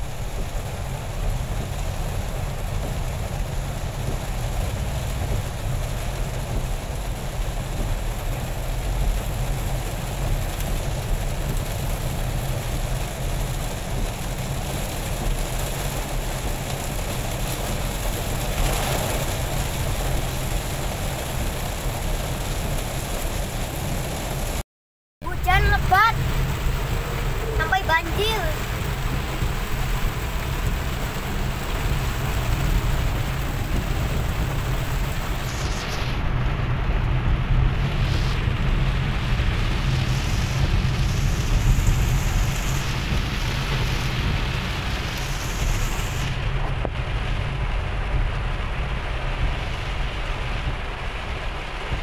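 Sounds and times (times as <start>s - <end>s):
rain hissing on car roof: 0.0s - 24.6s, 25.3s - 52.0s
road and engine rumble: 0.0s - 24.6s, 25.2s - 52.0s.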